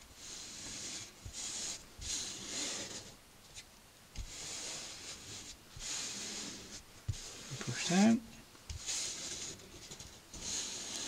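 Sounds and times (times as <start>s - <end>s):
palms swishing on cloth: 0.0s - 8.1s, 8.7s - 9.6s.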